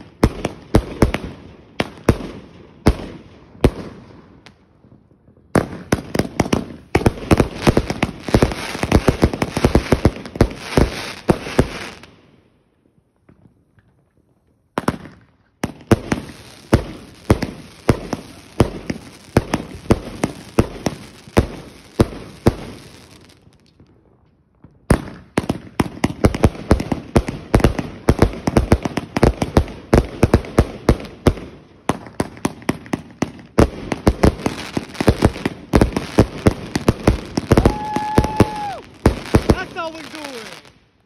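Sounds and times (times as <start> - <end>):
firework shots: 0.0 - 12.3, 14.7 - 24.0, 24.7 - 40.8.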